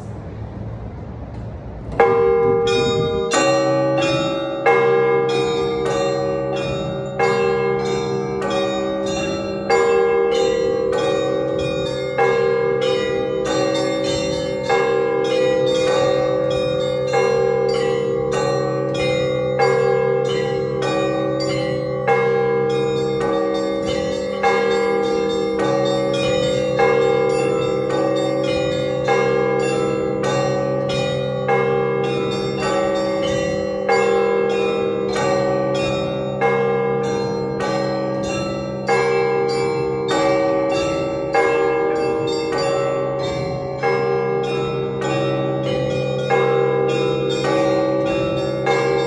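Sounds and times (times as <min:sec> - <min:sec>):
steady lower bell: 0:01.9 - 0:49.0
small bells struck rapidly: 0:02.0 - 0:49.0.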